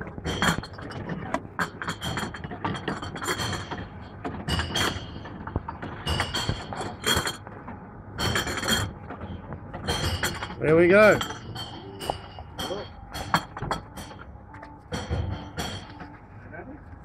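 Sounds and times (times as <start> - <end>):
drink containers clinking and knocking: 0.0 - 7.5, 8.2 - 14.3, 14.9 - 16.1.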